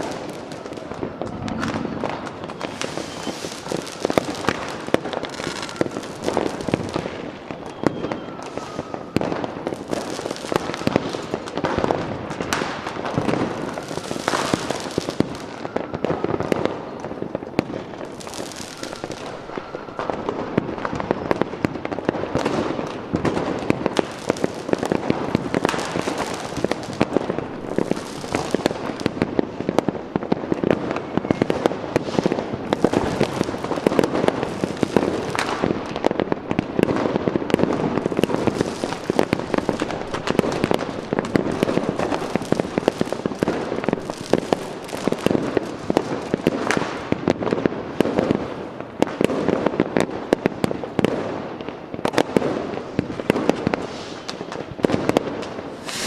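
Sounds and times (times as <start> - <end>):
fireworks crackling and popping: 0.0 - 56.0
loud firework bursts: 0.0 - 56.0.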